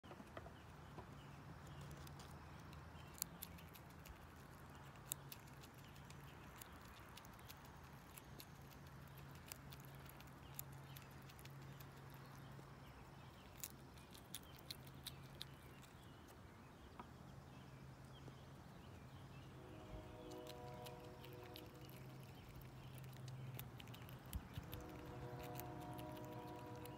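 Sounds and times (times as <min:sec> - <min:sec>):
squirrel crunching nuts: 0:00.1 - 0:17.4, 0:18.2 - 0:26.9
low steady hum: 0:00.1 - 0:26.9.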